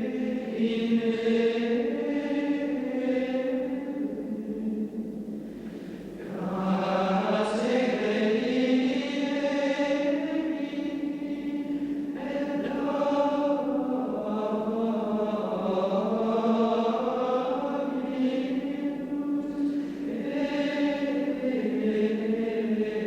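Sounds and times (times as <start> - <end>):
wordless choir-like voices: 0.0 - 23.0.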